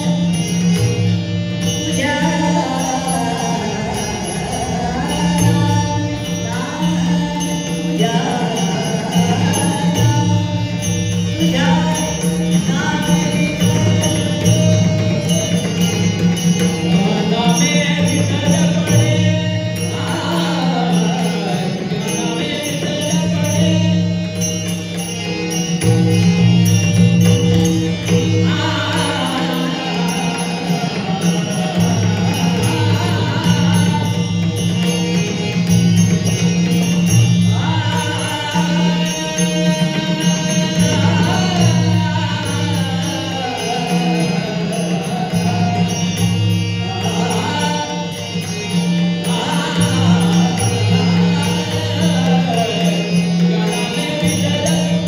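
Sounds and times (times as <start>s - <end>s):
men singing devotional song: 0.0s - 1.0s, 1.6s - 24.4s, 27.2s - 55.0s
hand cymbals clashing: 0.0s - 55.0s
harmonium drone: 0.0s - 55.0s.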